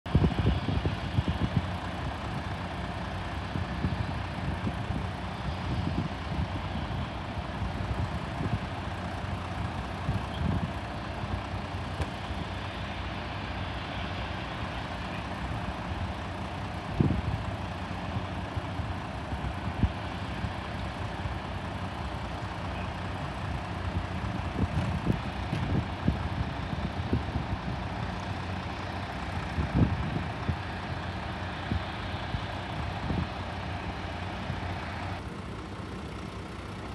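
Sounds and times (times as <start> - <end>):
engine idling with low rumble: 0.0 - 36.9.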